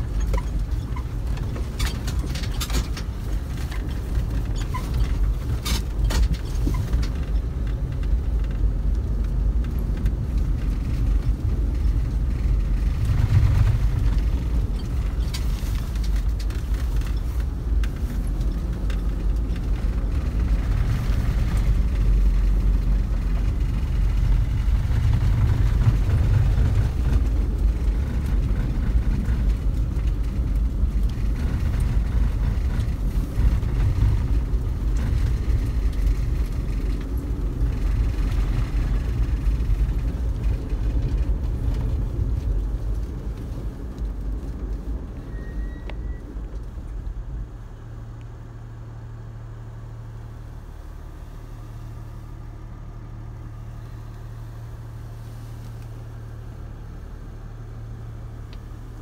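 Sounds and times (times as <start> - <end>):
low engine hum: 0.0 - 59.0
vehicle driving on snow: 0.0 - 59.0.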